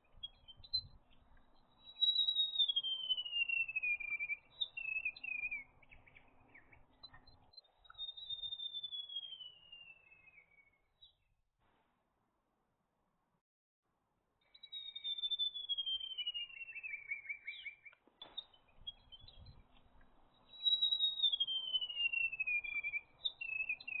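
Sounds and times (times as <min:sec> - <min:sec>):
bird singing whistled notes: 0:00.0 - 0:11.3, 0:14.4 - 0:24.0.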